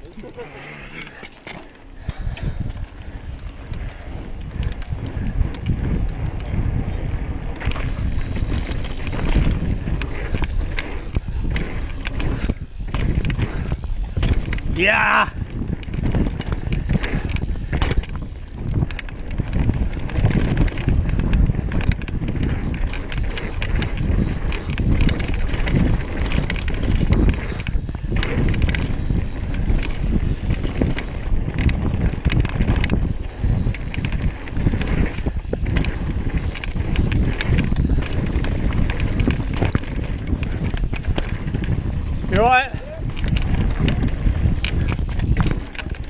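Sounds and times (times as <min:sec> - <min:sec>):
bike rattling and knocking: 0:00.0 - 0:46.0
wind and tyre noise: 0:00.0 - 0:46.0.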